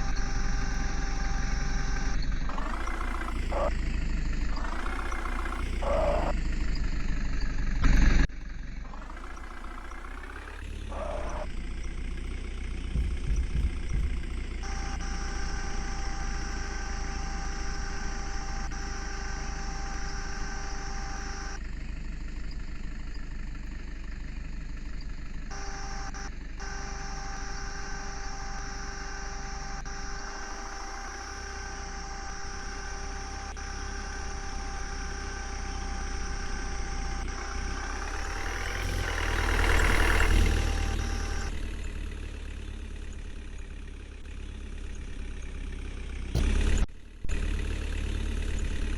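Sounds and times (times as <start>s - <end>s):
steady whine: 0.0s - 44.3s, 46.3s - 47.6s
heavy diesel engine running: 0.0s - 48.9s.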